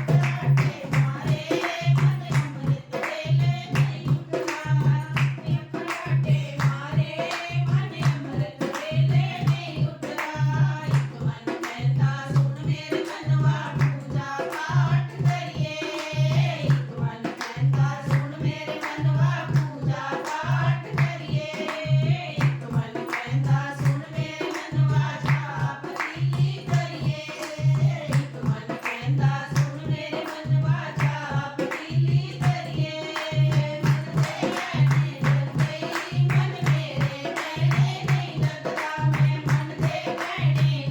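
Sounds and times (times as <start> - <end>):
group singing devotional song: 0.0 - 40.9
steady drum beat: 0.0 - 40.9.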